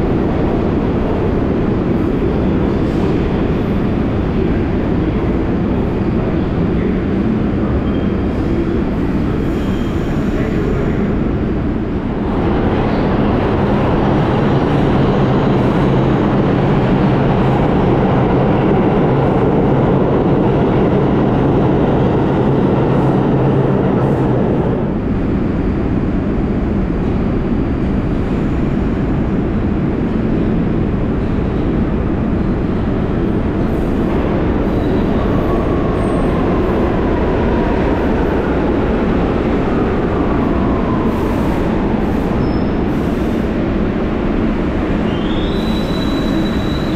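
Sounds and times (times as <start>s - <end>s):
rumble of subway trains: 0.0s - 46.9s.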